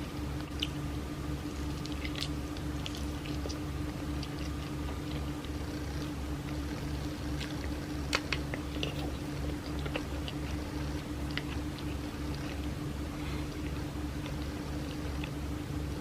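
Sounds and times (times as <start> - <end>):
chewing soft cake: 0.0 - 16.0
steady low hum: 0.0 - 16.0.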